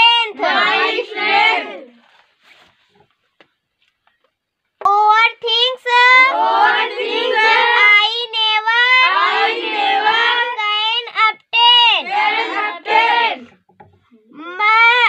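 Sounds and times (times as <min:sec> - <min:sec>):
girl reciting in sing-song chant: 0:00.0 - 0:02.0, 0:04.8 - 0:15.0.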